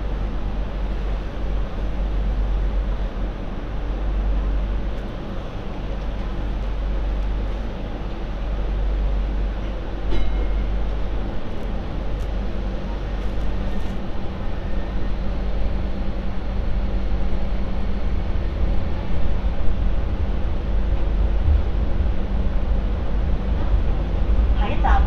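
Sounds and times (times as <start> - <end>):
light rail wheels rumbling on track: 0.0 - 25.0.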